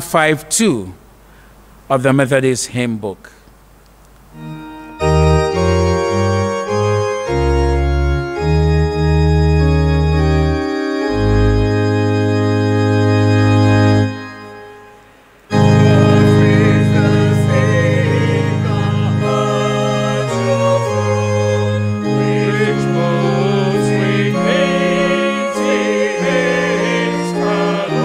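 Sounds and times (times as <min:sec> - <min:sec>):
organ playing a hymn: 0:04.4 - 0:28.0.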